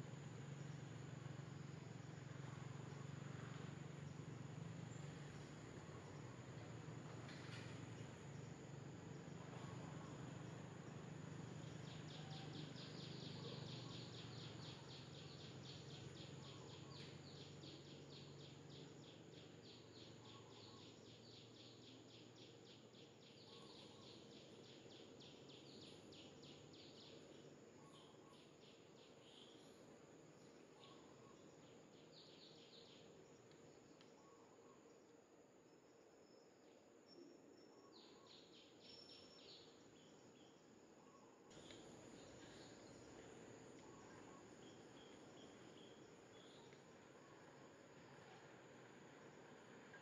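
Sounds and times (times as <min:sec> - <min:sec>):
insect chirping: 0:00.0 - 0:50.0
quiet outdoor ambience: 0:00.0 - 0:50.0.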